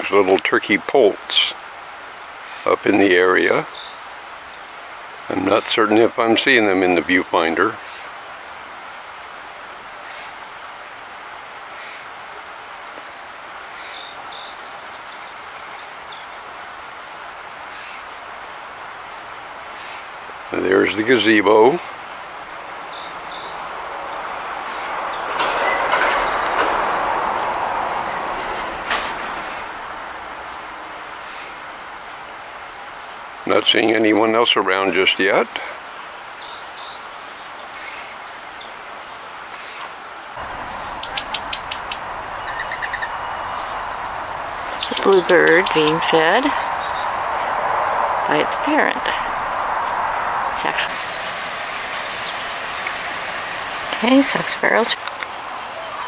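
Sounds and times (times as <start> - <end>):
outdoor background hiss: 0.0 - 56.0
songbirds chirping: 0.0 - 56.0.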